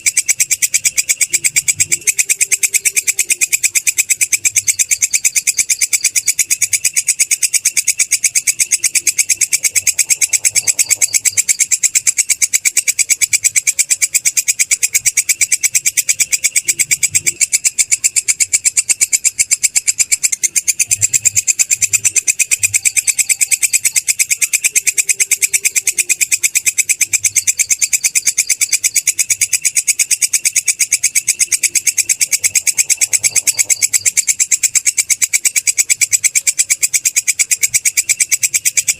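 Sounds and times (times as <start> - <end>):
katydid trilling: 0.0 - 38.9.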